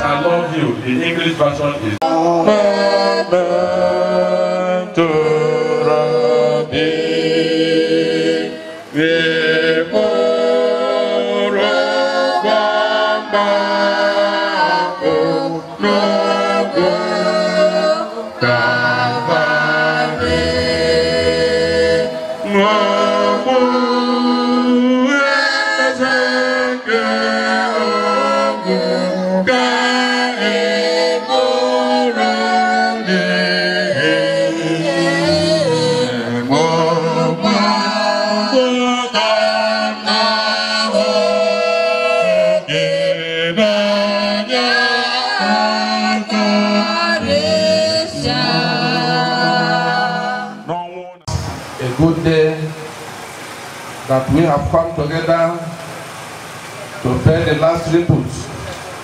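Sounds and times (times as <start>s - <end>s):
choir singing unaccompanied: 0.0s - 52.7s.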